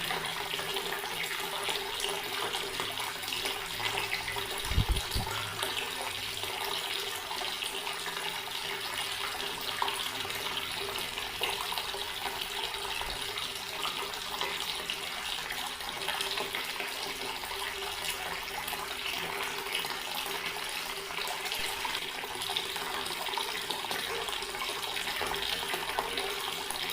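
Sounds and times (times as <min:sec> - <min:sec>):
water tap running: 0:00.0 - 0:26.9.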